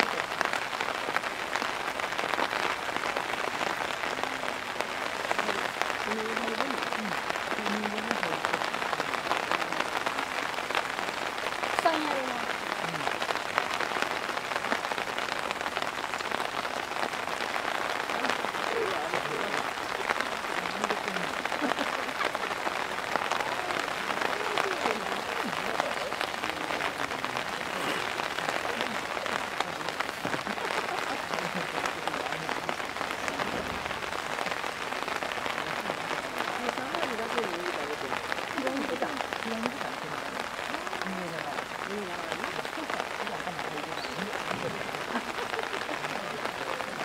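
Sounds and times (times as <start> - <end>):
faint distant voices: 0.0 - 47.0
heavy rain falling: 0.0 - 47.0.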